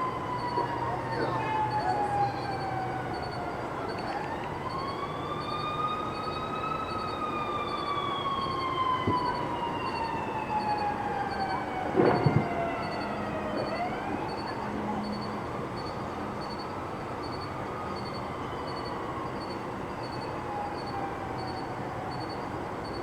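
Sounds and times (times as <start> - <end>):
siren wailing: 0.0 - 23.0.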